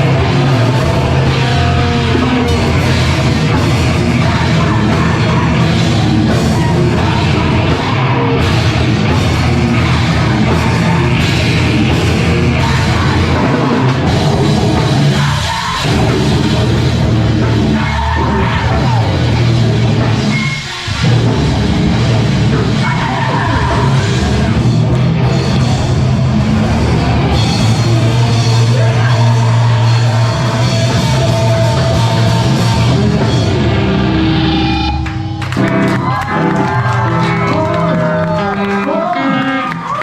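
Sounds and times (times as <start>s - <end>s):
drum kit: 0.0s - 40.0s
live rock band playing: 0.0s - 40.0s.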